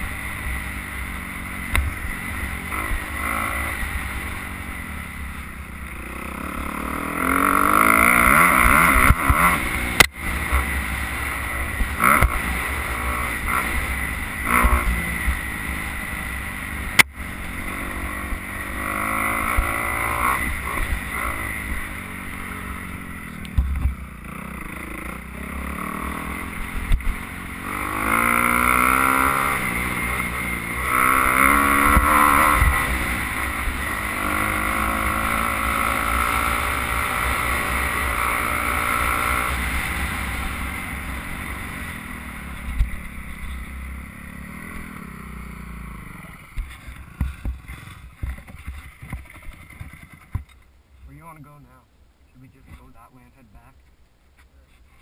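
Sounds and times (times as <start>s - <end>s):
dirt bike engine revving: 0.0s - 50.3s.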